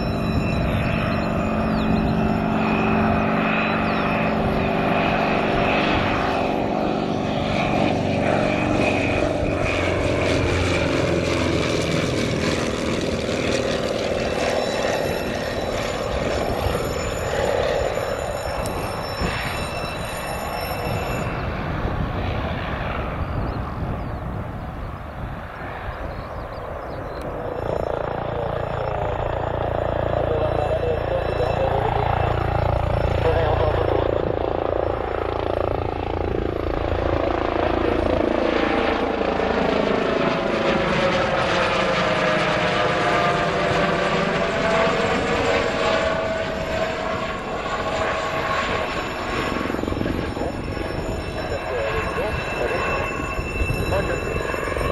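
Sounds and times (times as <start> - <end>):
helicopter engine and rotor: 0.0 - 54.9
propeller plane flying past: 0.0 - 54.9.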